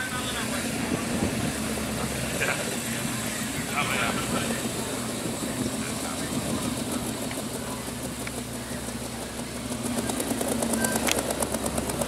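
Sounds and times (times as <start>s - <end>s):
pickup truck engine running at low revs: 0.0s - 12.0s.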